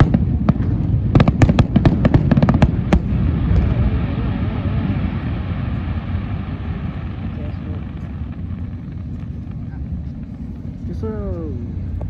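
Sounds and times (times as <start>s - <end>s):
fireworks cracking: 0.0s - 12.0s
low rumble: 0.0s - 12.0s.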